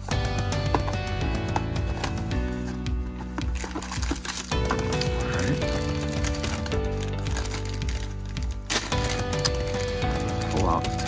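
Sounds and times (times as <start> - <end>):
background music sustained tones: 0.0 - 11.0.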